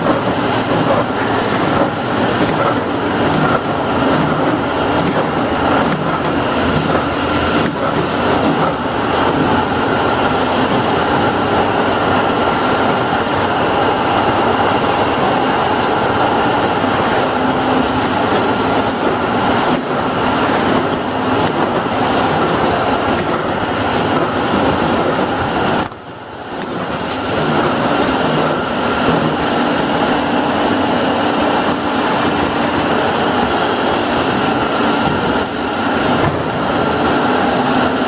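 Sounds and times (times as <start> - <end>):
loud machine din: 0.0 - 38.0.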